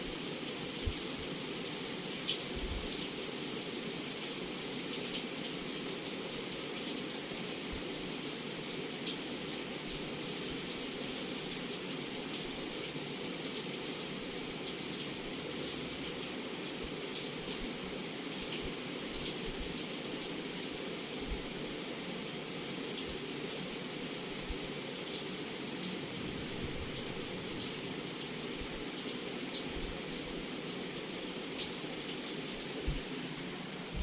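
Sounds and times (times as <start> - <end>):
heavy rain against a window: 0.0 - 34.0.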